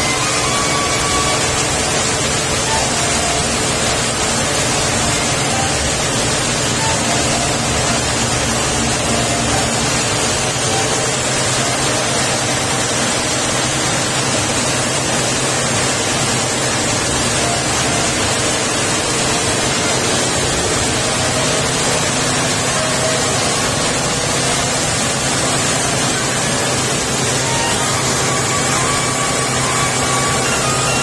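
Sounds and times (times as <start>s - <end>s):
coffee mill running: 0.0s - 31.0s.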